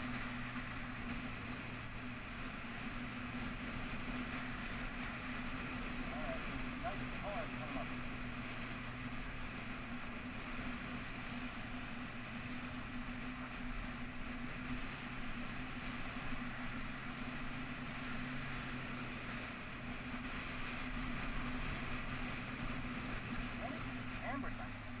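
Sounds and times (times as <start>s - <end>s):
motorcycle engine drone: 0.0s - 25.0s
wind and road noise: 0.0s - 25.0s.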